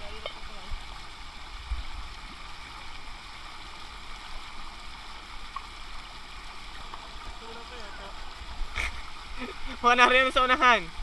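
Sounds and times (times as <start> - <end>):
water rushing from pipes: 0.0 - 11.0.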